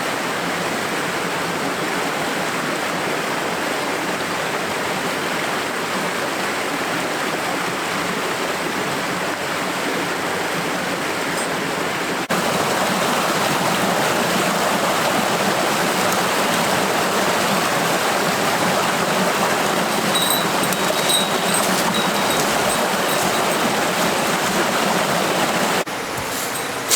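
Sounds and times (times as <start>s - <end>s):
flowing stream: 0.0s - 26.9s.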